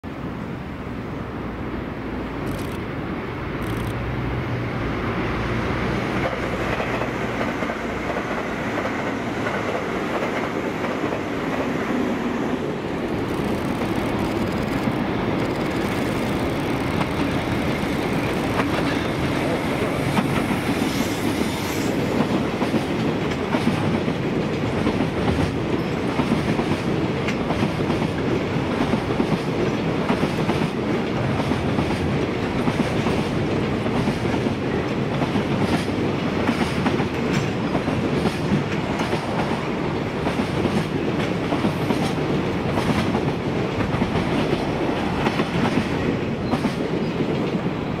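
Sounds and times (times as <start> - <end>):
train running noise: 0.1 - 48.0
train wheels clacking: 6.0 - 12.2, 13.0 - 47.8.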